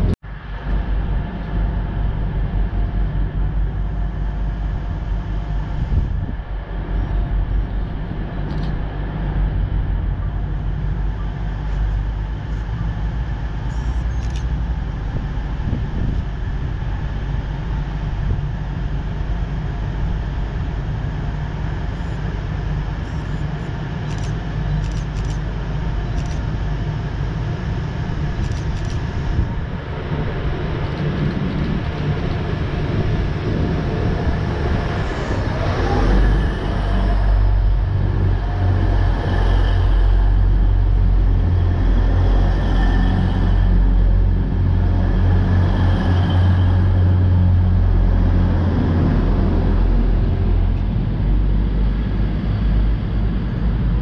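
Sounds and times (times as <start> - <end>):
diesel train engine drone: 0.0 - 54.0
high whine of passing train: 0.0 - 54.0.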